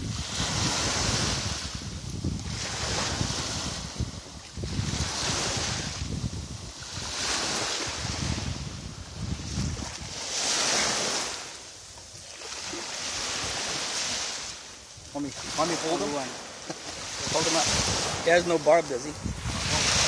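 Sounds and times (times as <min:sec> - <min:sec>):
wind rumble on microphone: 0:00.0 - 0:14.2, 0:16.8 - 0:20.0
small waves washing onto shore: 0:00.0 - 0:20.0.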